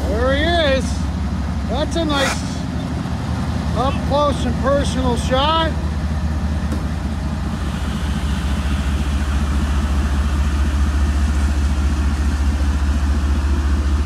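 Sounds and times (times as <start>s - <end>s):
locomotive engine throbbing: 0.0s - 14.0s.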